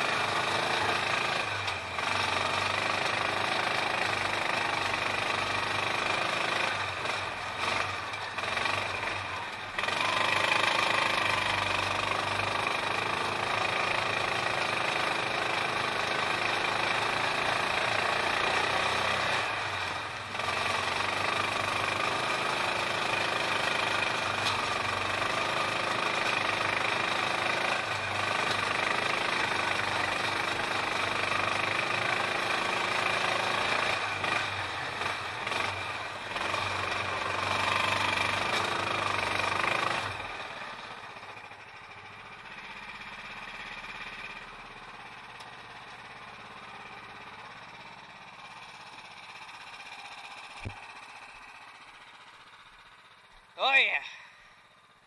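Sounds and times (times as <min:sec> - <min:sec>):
atv engine running under load: 0:00.0 - 0:55.0
engine idling: 0:00.0 - 0:55.0.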